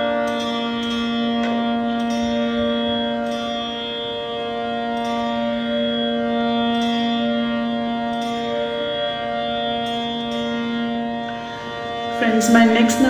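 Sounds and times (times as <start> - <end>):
tanpura drone: 0.0 - 13.0.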